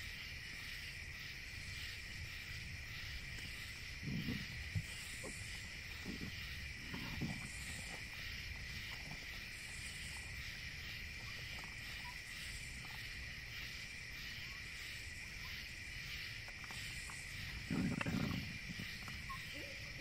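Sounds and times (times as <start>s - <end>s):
crickets trilling: 0.0s - 20.0s
faint insect ticks: 0.0s - 20.0s
insect pulsing call: 0.0s - 20.0s.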